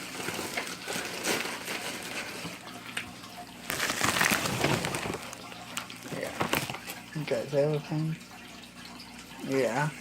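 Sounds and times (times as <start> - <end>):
aquarium water trickling: 0.0 - 10.0.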